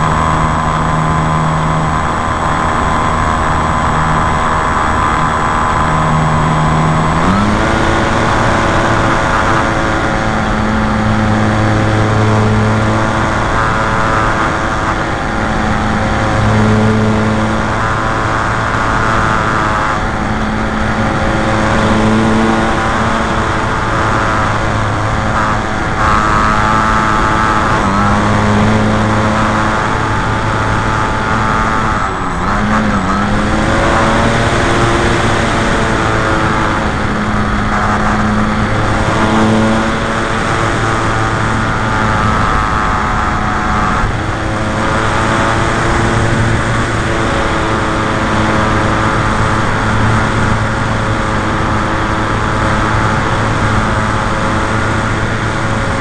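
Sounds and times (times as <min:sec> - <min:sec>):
model plane electric motor and propeller: 0:00.0 - 0:56.0.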